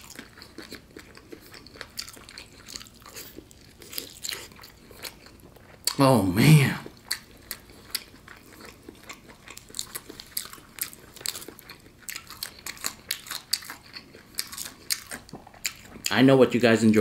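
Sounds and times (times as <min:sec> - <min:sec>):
crunchy chewing and biting: 0:00.0 - 0:06.0, 0:06.8 - 0:16.1.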